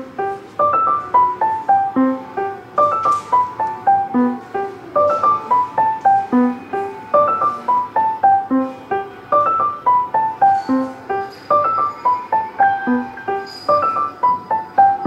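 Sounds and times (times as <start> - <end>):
looping piano melody: 0.0 - 15.0.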